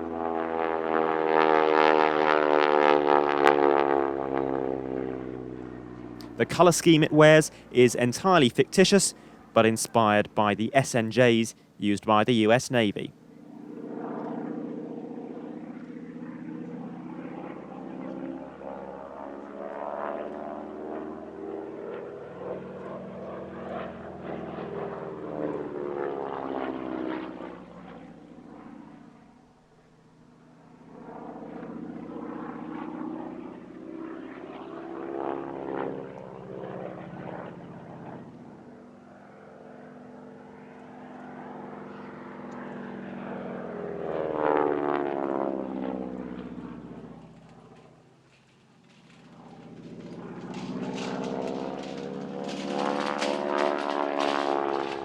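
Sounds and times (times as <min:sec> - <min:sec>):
propeller plane passing overhead: 0:00.0 - 0:10.4, 0:11.5 - 0:55.0.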